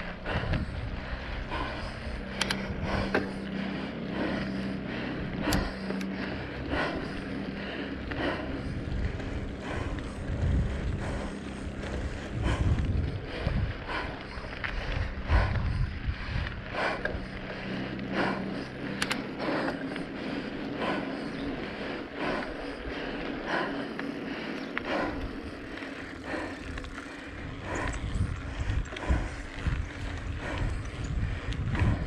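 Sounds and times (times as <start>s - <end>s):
bicycle drivetrain creaking: 0.0s - 32.0s
wind rumble on microphone: 0.0s - 32.0s.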